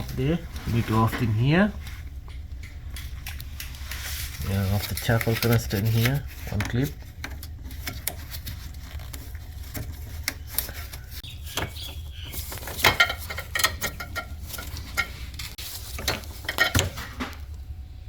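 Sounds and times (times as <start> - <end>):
steady low hum: 0.0 - 18.0
parts clicking and rattling: 1.0 - 17.6.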